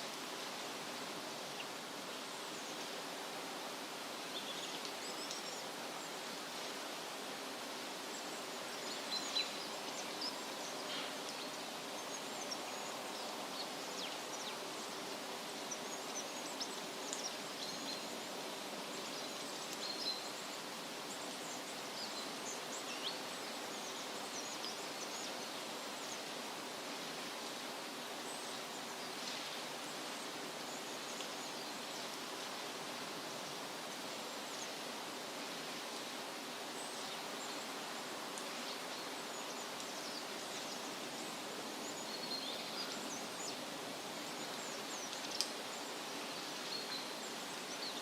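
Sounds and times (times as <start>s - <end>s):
wind rustling leafy trees: 0.0s - 48.0s.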